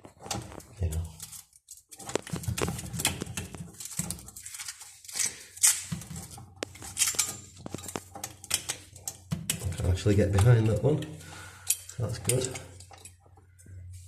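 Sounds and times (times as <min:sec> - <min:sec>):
clicks and scraping on pipework: 0:00.0 - 0:14.0.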